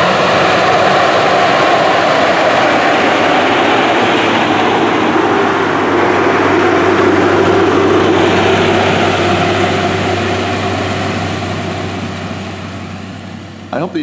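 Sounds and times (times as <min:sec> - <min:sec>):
combine harvester humming: 0:00.0 - 0:14.0.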